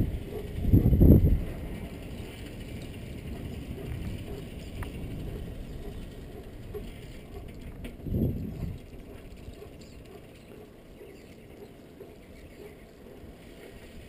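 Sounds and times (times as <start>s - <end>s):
bicycle freewheel ticking: 0.0s - 14.0s
tyres rumbling on asphalt: 0.0s - 14.0s.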